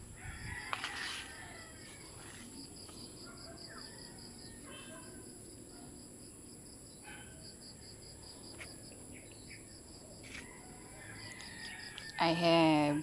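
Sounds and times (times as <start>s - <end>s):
crickets chirping: 0.0s - 13.0s
high insect whine: 0.0s - 13.0s.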